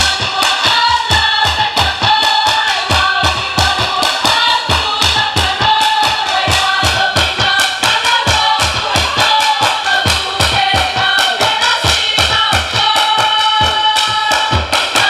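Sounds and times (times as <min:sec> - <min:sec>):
fast drumbeat: 0:00.0 - 0:15.0
women singing together: 0:00.0 - 0:15.0.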